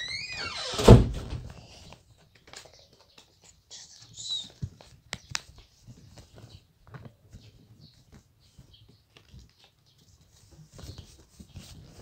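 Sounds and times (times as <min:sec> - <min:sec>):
paper rustling as folded: 0:01.5 - 0:12.0.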